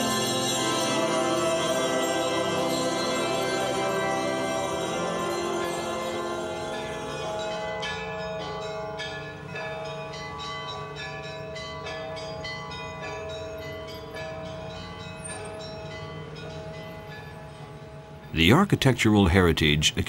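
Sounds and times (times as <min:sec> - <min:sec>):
church bells ringing: 0:00.0 - 0:19.7.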